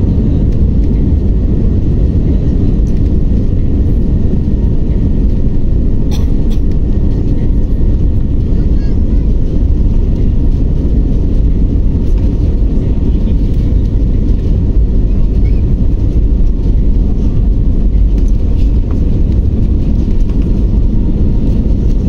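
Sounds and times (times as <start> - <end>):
jet engines running: 0.0 - 22.0
wheels rumbling over runway: 0.0 - 22.0.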